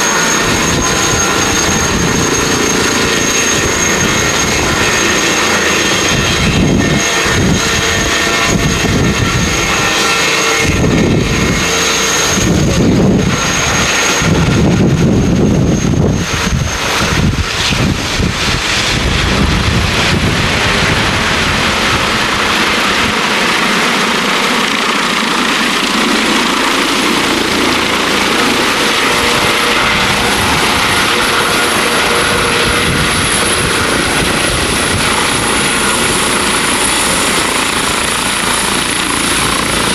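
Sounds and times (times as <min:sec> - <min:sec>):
helicopter rotor rumble: 0:00.0 - 0:39.9
helicopter turbine whine: 0:00.0 - 0:39.9.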